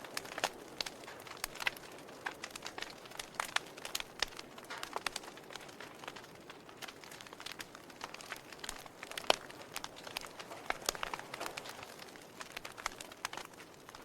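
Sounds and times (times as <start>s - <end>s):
logs popping and snapping: 0.0s - 14.0s
wood fire crackling: 0.0s - 14.0s.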